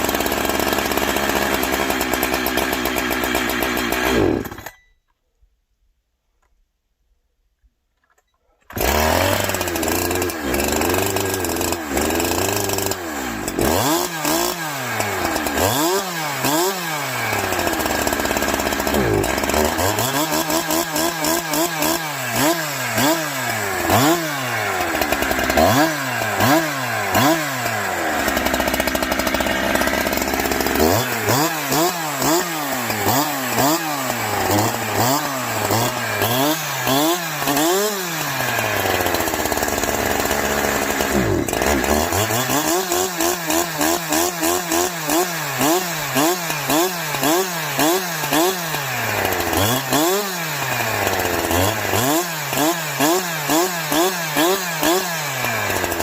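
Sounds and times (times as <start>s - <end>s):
chainsaw revving: 0.0s - 4.8s, 8.7s - 56.0s.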